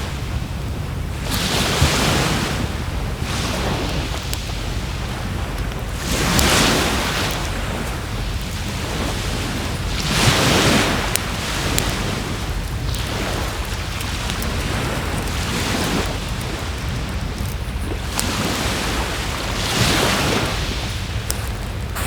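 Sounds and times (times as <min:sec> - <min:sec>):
campfire crackling: 0:00.0 - 0:22.0
sea waves washing ashore: 0:00.0 - 0:22.0.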